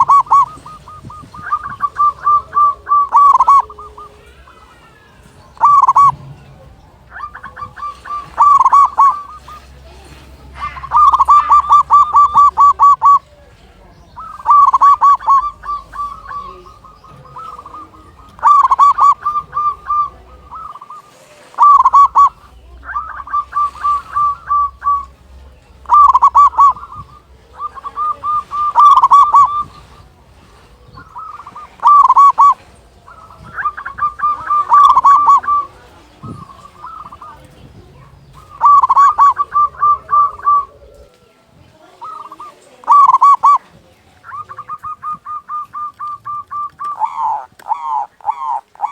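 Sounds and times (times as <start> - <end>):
dove cooing: 0.0 - 48.9.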